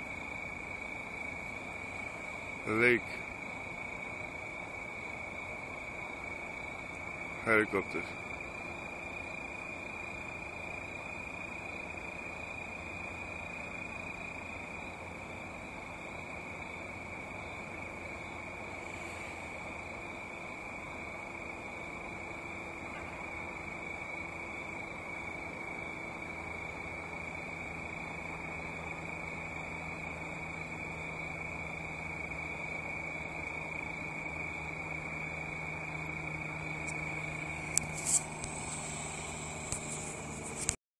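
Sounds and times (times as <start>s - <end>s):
crickets chirping: 0.0s - 40.8s
faint low hum: 0.0s - 40.8s.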